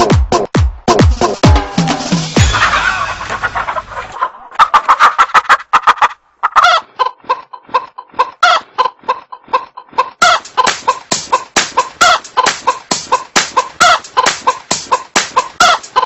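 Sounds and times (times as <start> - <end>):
hen clucking: 2.4 - 16.0.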